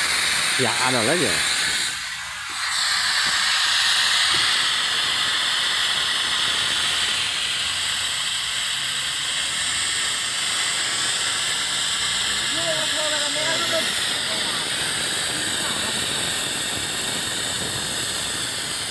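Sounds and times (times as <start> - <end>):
pneumatic extractor hissing: 0.0 - 18.9.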